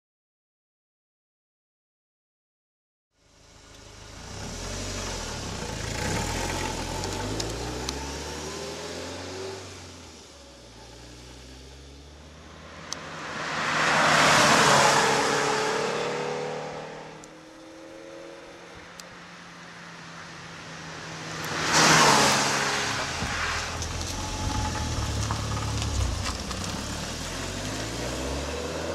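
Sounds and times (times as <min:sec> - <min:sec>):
sports car engine revving: 0:03.8 - 0:19.1, 0:20.4 - 0:28.9
car passing by: 0:04.2 - 0:28.9.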